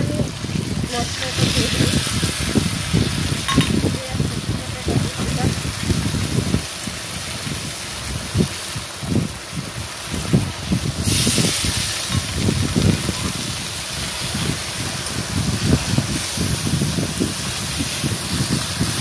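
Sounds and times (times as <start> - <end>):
vegetables sizzling in oil: 0.0 - 19.0
water hissing in hot oil: 0.0 - 19.0.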